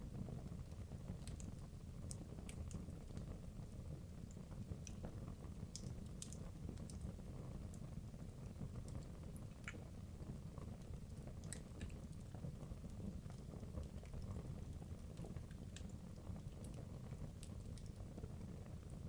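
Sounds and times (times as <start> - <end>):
fire rumbling in fireplace: 0.0 - 19.0
fire crackles and pops: 0.1 - 19.0.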